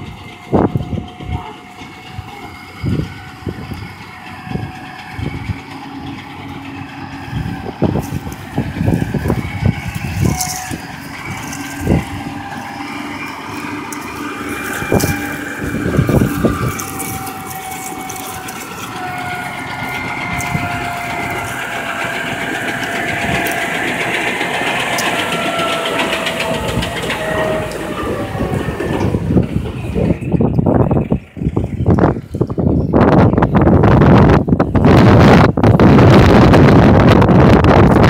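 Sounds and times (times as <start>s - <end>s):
machine whine: 0.0s - 38.0s
truck engine running: 0.0s - 38.0s.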